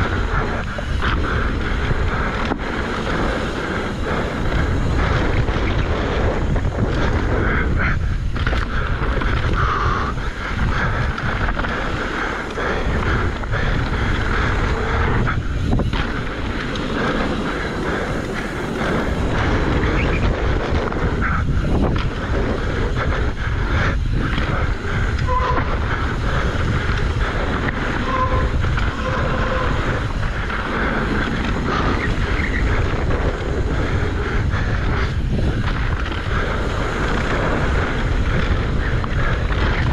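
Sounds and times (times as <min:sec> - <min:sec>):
mountain bike rumbling and rattling: 0:00.0 - 0:39.9
wind buffeting microphone: 0:00.0 - 0:39.9.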